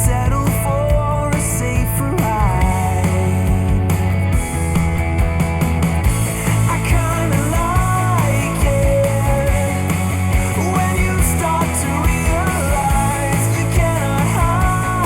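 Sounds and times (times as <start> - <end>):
rock music with heavy bass: 0.0 - 15.0.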